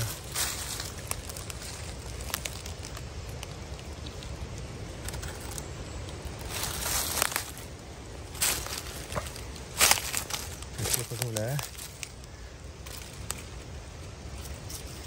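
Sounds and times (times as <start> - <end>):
crunch of leaves: 0.0 - 15.0
dry leaves crackling and rustling: 0.0 - 15.0.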